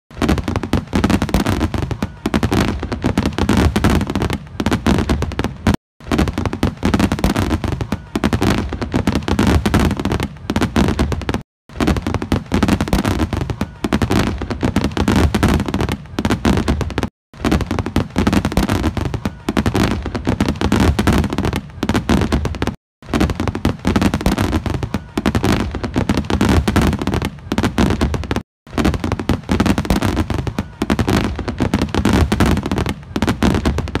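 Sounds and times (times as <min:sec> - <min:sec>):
fireworks bangs and crackles: 0:00.1 - 0:34.0.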